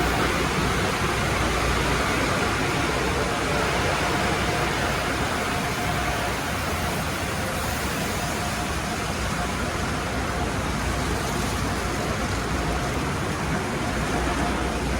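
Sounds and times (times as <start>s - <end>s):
car wash equipment rushing: 0.0s - 14.9s.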